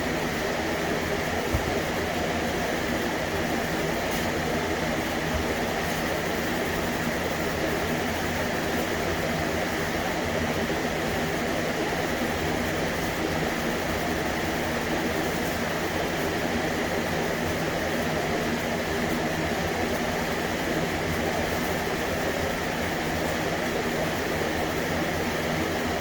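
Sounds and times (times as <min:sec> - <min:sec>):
machine hum and hiss: 0:00.0 - 0:26.0.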